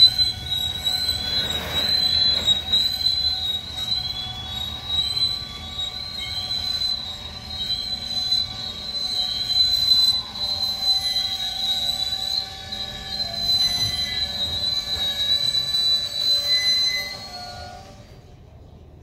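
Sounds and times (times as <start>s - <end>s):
low train rumble: 0.0s - 19.0s
train wheels squealing on rails: 0.0s - 19.0s.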